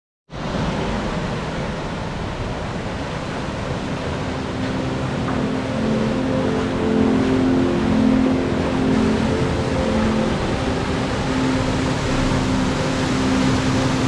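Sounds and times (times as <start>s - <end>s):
low hum of held tones: 2.6s - 14.0s.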